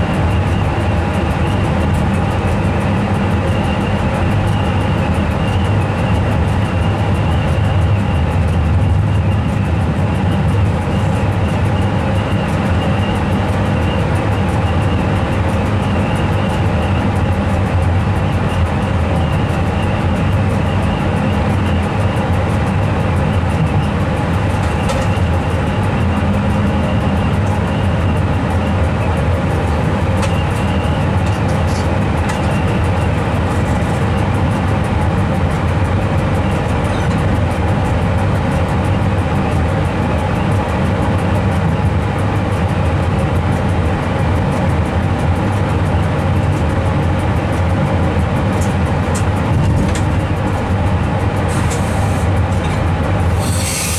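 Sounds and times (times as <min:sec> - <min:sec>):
steady hums: 0:00.0 - 0:53.9
train low rumble: 0:00.0 - 0:53.9.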